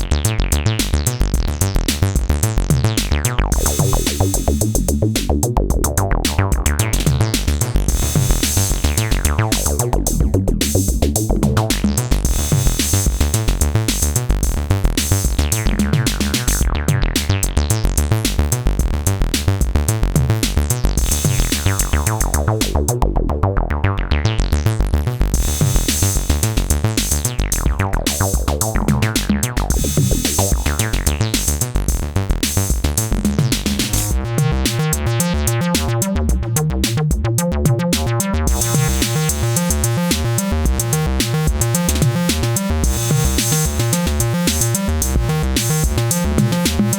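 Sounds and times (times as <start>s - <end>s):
drum machine beat: 0.0s - 23.1s, 25.3s - 46.9s
acid bass line: 0.0s - 46.9s.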